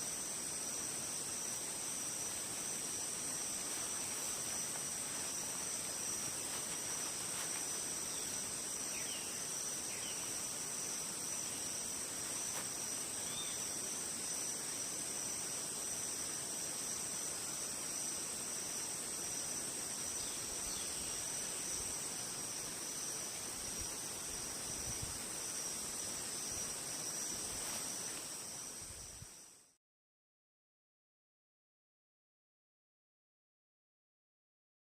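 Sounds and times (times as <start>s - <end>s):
insects trilling: 0.0s - 29.8s.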